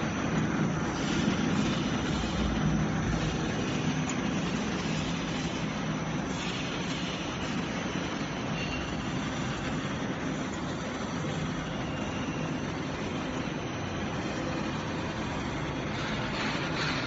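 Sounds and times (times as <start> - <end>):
mixer mechanical running hum: 0.0 - 17.0.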